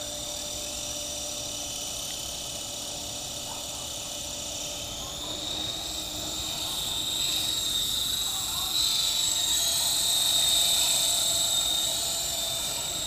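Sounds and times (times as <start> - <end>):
toy helicopter motor whine: 0.0 - 13.0.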